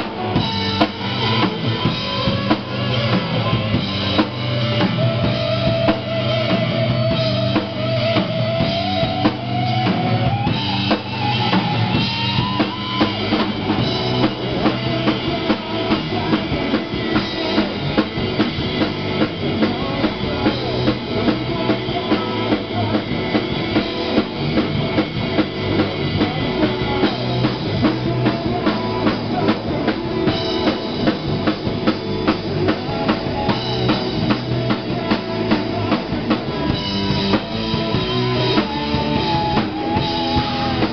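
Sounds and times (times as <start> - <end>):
drum kit beat: 0.0 - 40.9
electric guitar: 0.0 - 40.9.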